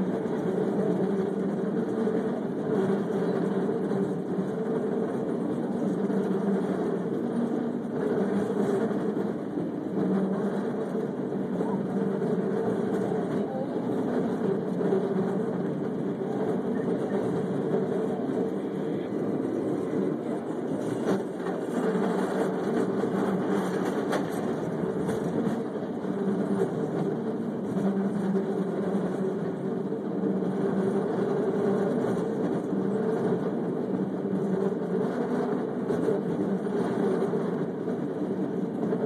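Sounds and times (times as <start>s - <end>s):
cable car rumbling: 0.0s - 39.0s
constant low hum: 0.0s - 39.0s.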